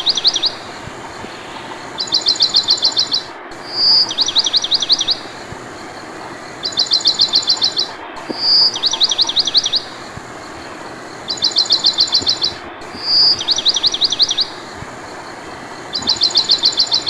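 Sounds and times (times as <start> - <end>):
songbird singing: 0.0 - 17.0
steady hiss: 0.0 - 17.0.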